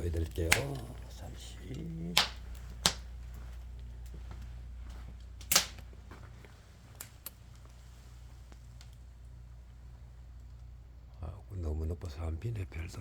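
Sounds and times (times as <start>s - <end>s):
burning firewood popping: 0.0s - 11.8s
steady low hum: 0.0s - 13.0s.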